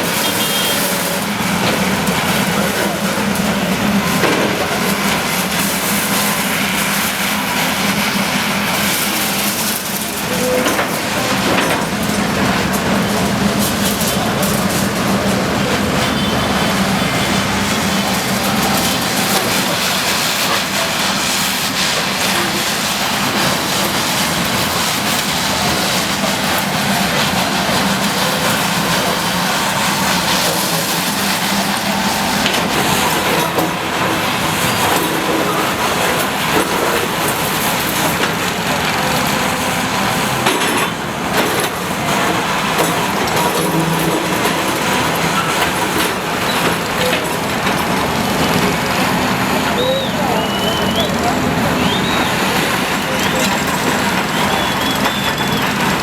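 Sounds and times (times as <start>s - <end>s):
bulldozer clattering: 0.0s - 56.0s
bulldozer engine: 0.0s - 56.0s.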